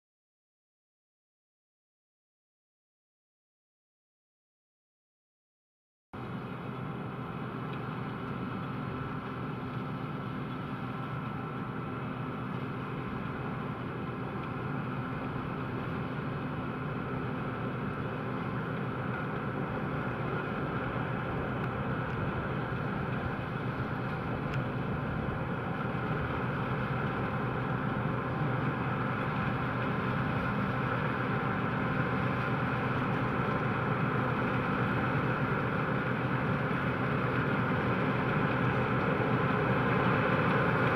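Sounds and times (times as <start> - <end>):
combine harvester drone: 6.2 - 40.9.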